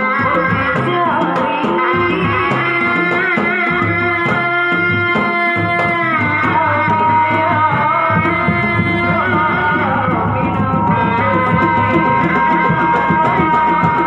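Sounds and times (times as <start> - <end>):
frame drums beaten: 0.0 - 14.0.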